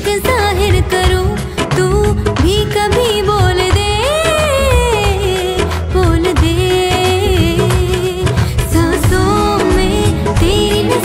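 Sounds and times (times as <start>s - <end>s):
backing music: 0.0s - 11.0s
woman singing: 0.0s - 11.0s
steady drum beat: 0.2s - 11.0s.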